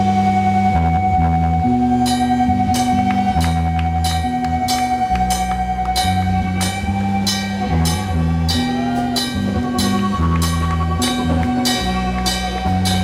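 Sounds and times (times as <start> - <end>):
long held high note: 0.0 - 13.0
moving bass line: 0.0 - 13.0.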